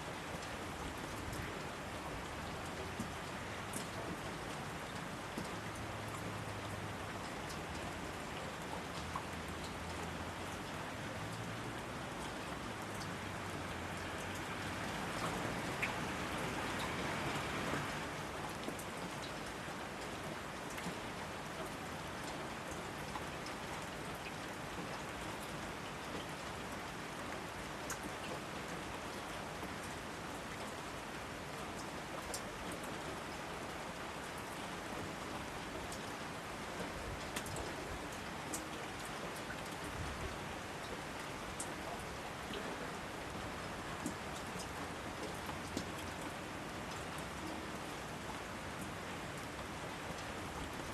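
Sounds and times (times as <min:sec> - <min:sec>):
raindrops pattering: 0:00.0 - 0:50.9
steady rain falling: 0:00.0 - 0:50.9.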